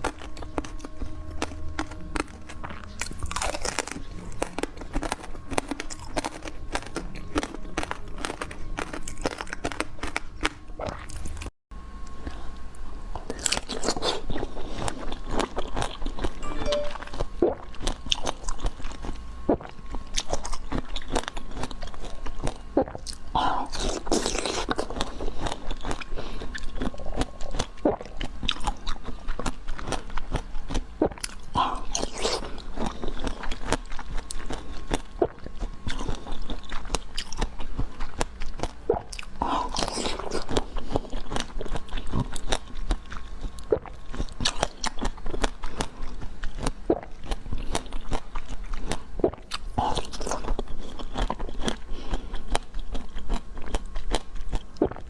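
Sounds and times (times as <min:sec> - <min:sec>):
crunchy biting and chewing: 0:00.0 - 0:11.5, 0:12.1 - 0:55.0.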